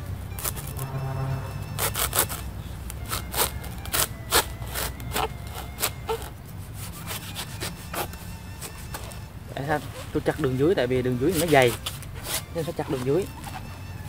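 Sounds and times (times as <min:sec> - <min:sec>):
saw rasping through coconut husk: 0:00.0 - 0:14.0.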